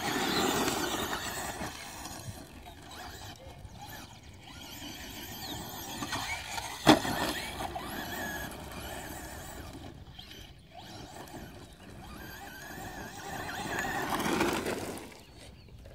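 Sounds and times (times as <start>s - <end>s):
rc truck motor whining: 0.0s - 15.9s.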